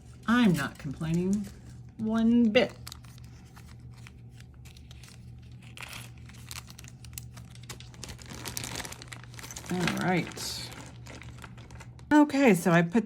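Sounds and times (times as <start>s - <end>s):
plastic bags crinkling: 0.0s - 12.6s
steady low hum: 0.0s - 13.0s.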